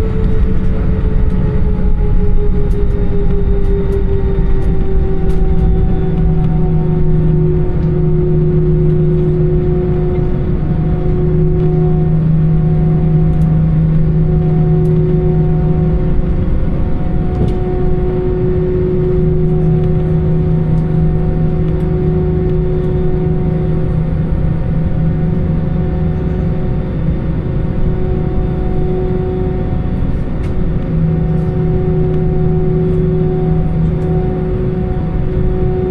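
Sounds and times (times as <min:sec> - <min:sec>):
airplane cabin engine drone: 0:00.0 - 0:35.9.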